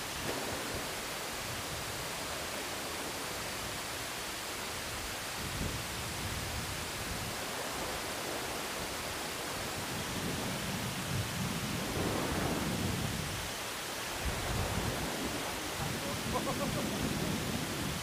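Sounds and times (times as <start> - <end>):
sea surf washing against concrete: 0.0 - 18.0.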